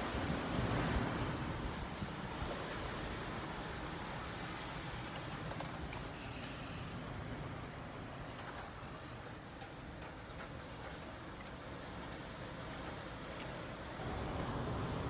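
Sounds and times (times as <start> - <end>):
strong wind around building: 0.0 - 15.0.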